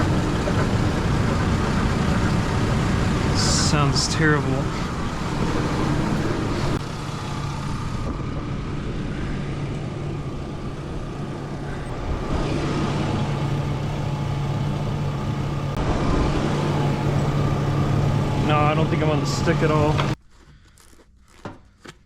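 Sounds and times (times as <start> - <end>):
engine running rough: 0.0 - 20.2.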